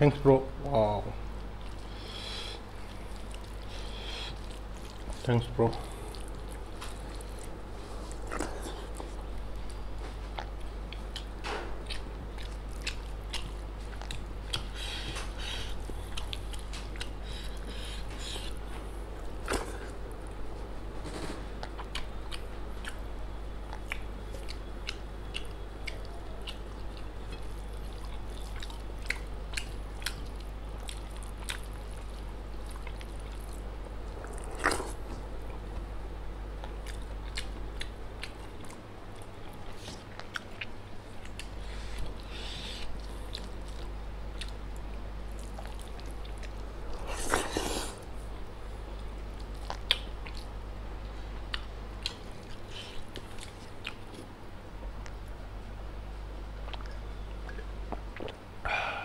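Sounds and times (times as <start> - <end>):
steady low hum: 0.0 - 59.0
person chewing with wet clicks: 1.4 - 20.4, 21.6 - 35.9, 36.6 - 55.4, 56.5 - 58.5.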